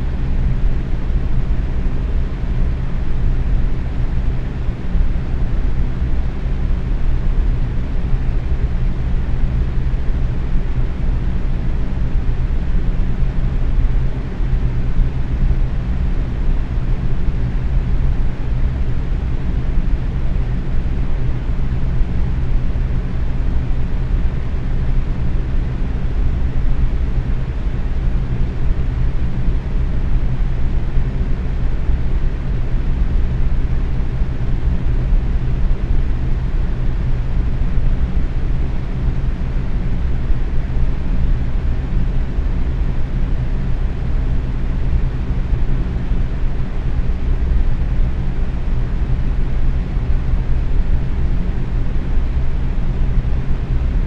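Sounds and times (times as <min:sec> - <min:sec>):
box fan running: 0:00.0 - 0:54.0.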